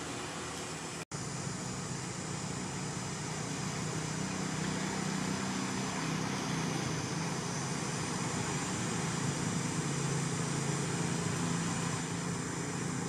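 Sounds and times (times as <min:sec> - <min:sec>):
low outdoor hum: 0:00.0 - 0:13.0.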